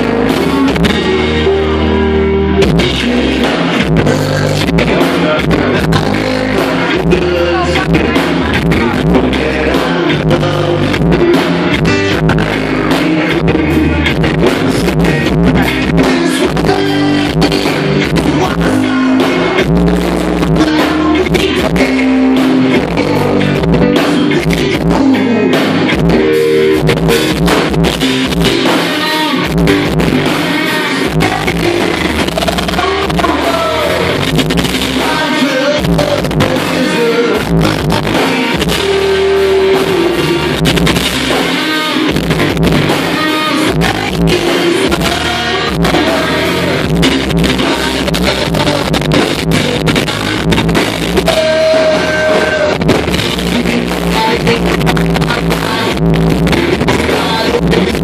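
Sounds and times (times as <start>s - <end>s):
drum kit: 0.0s - 58.0s
electric guitars: 0.0s - 58.0s
lead singer singing: 0.0s - 58.0s.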